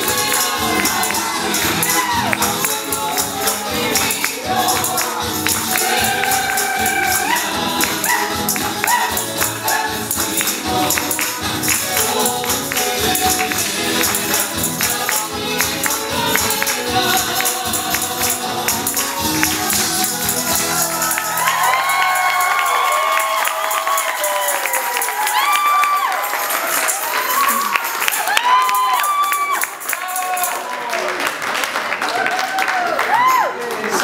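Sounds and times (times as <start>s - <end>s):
person singing: 0.0s - 30.7s
fast tambourine rhythm: 0.0s - 30.8s.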